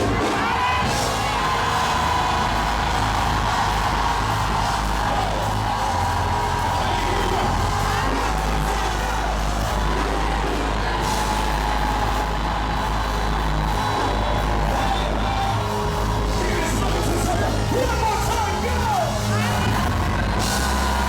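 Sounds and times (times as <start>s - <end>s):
congregation singing and shouting: 0.0s - 21.0s
live worship music: 0.0s - 21.0s.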